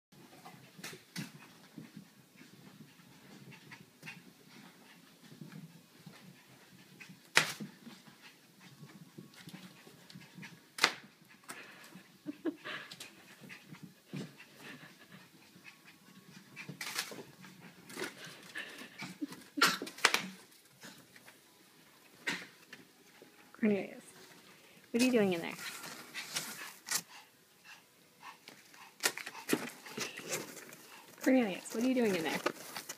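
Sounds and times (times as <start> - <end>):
puppy panting: 0.2 - 19.6, 25.0 - 32.9.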